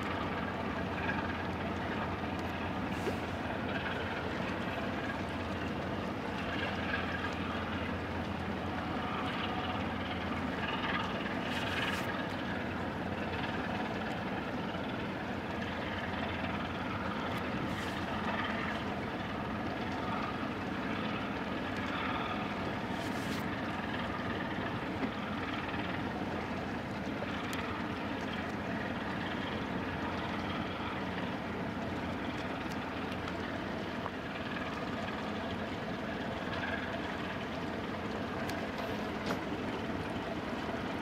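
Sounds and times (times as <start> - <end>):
ship engine drone: 0.0 - 41.0.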